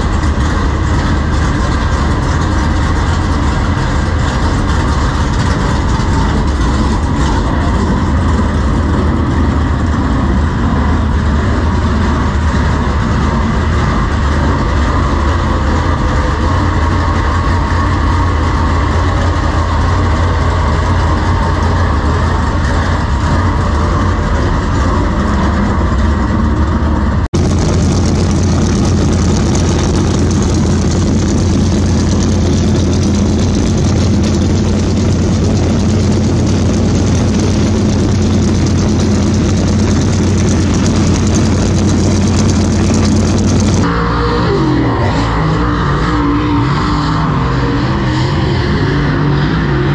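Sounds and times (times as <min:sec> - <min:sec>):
race car engines idling: 0:00.0 - 0:43.9.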